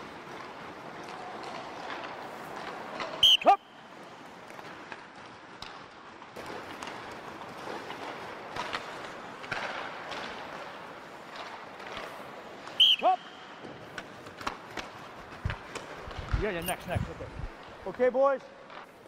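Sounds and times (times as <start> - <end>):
ice skates scraping: 0.0 - 19.0.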